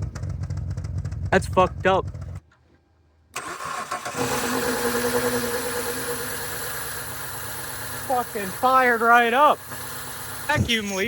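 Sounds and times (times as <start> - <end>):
car engine starting and running: 0.0 - 2.4, 3.4 - 11.0.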